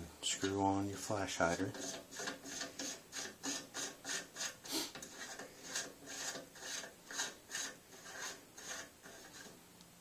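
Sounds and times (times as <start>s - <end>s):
scratchy rasps of threading metal: 0.3s - 9.6s.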